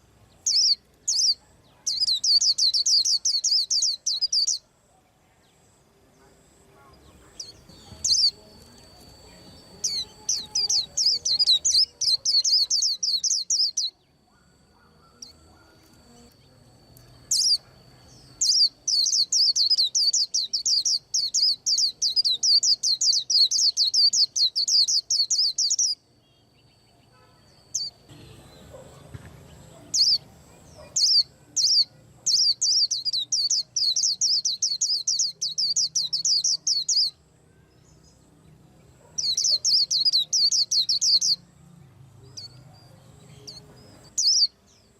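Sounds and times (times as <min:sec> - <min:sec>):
bird twittering song: 0:00.0 - 0:04.7, 0:06.8 - 0:41.4, 0:42.2 - 0:44.9
bird single chirps: 0:00.4 - 0:04.6, 0:07.3 - 0:37.2, 0:39.2 - 0:41.4, 0:42.3 - 0:44.6.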